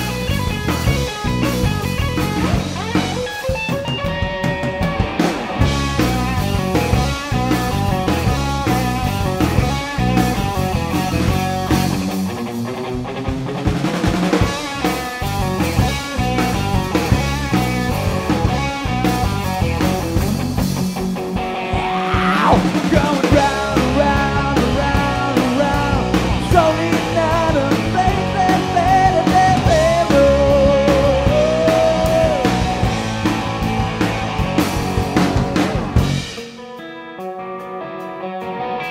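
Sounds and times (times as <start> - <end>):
blues-rock band playing: 0.0 - 38.9
guitar falling pitch sweep: 0.0 - 38.9.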